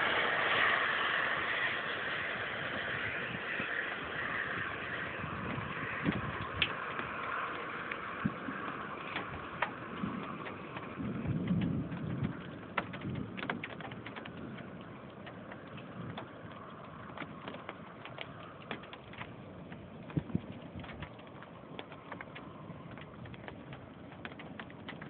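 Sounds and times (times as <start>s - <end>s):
wind and rain rushing: 0.0s - 25.0s
raindrop taps: 2.8s - 25.0s.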